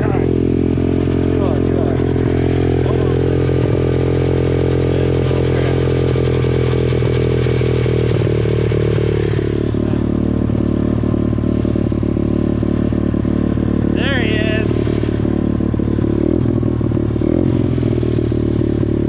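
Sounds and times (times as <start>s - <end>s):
dirt bike engine running hard: 0.0s - 19.0s.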